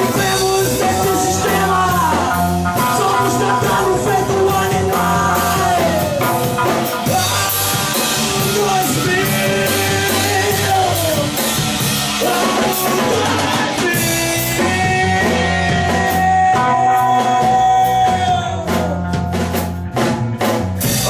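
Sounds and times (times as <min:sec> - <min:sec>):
rock band playing instrumental: 0:00.0 - 0:21.0.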